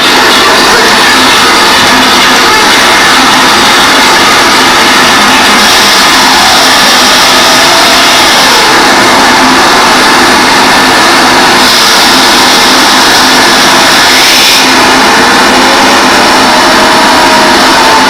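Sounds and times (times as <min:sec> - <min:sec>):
distorted harsh noise: 0:00.0 - 0:18.0.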